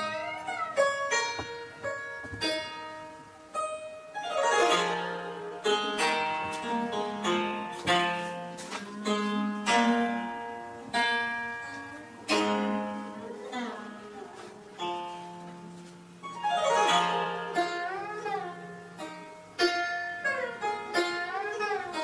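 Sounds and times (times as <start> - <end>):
plucked zither notes: 0.0 - 22.0.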